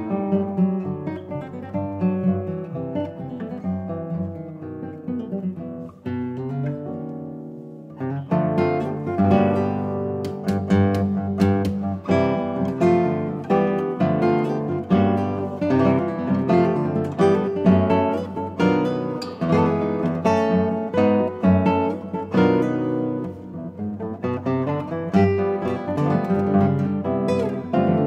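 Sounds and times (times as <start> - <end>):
classical guitar duo: 0.0 - 28.0.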